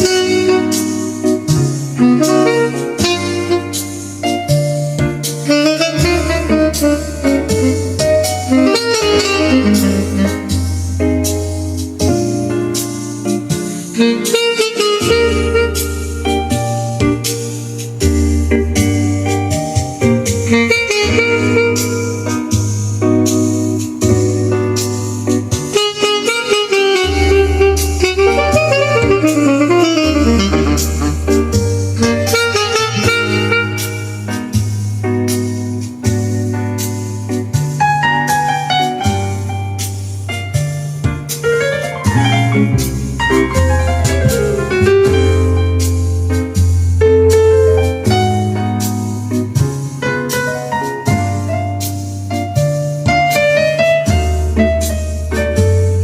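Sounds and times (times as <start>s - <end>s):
sustained bass notes: 0.0s - 26.2s, 26.9s - 50.3s
saxophone melody: 0.0s - 36.4s, 38.0s - 39.8s, 40.5s - 52.6s
instrumental music: 0.0s - 56.0s.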